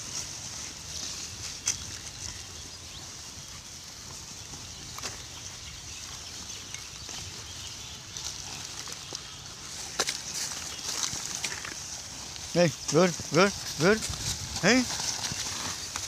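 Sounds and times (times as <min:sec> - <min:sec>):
pigs snuffling and chewing: 0:00.0 - 0:16.0.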